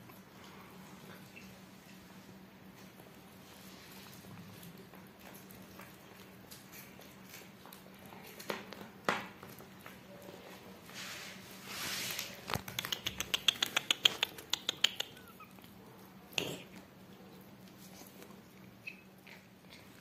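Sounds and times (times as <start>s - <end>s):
cats eating: 0.0s - 20.0s.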